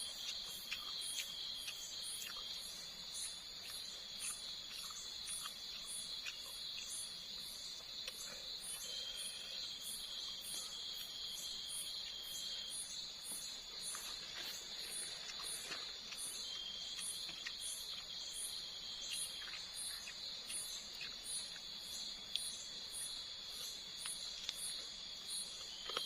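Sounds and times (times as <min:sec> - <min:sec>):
cricket chirps: 0:00.0 - 0:26.0
insects buzzing drone: 0:00.0 - 0:26.0.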